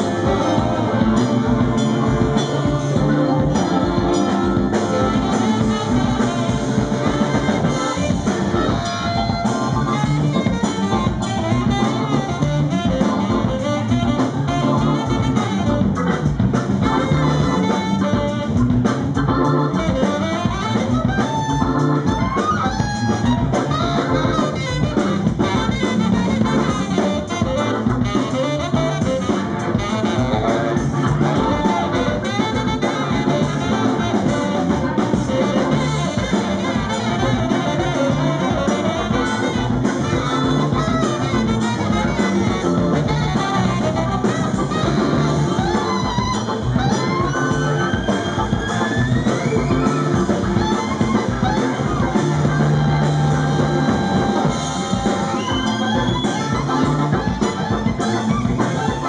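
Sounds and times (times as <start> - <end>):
drum kit: 0.0 - 59.0
electric guitar: 0.0 - 59.0
tenor saxophone solo: 0.0 - 59.0.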